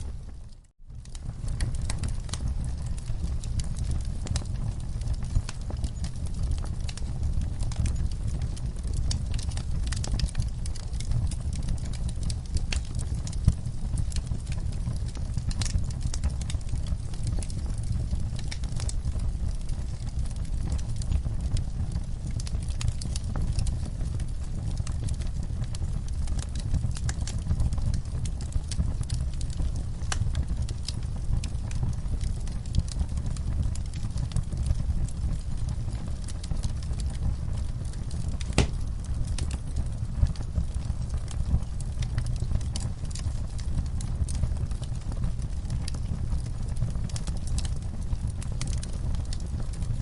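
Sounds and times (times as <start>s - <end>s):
fire pops and snaps: 0.0s - 50.0s
flames low rumble: 0.0s - 50.0s.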